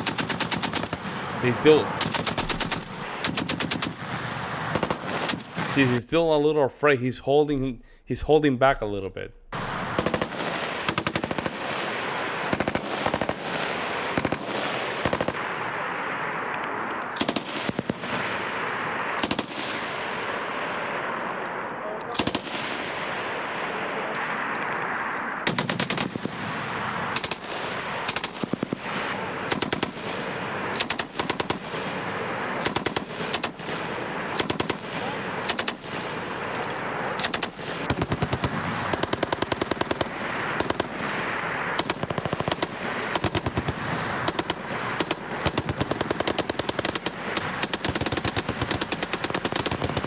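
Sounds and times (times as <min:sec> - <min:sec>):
machine-gun fire bursts: 0:00.0 - 0:06.0, 0:09.6 - 0:24.5, 0:25.4 - 0:50.0.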